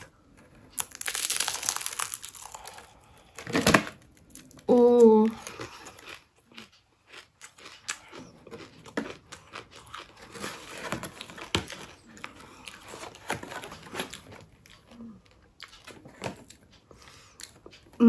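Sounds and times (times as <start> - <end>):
person eating with soft crunching: 0.0 - 18.0.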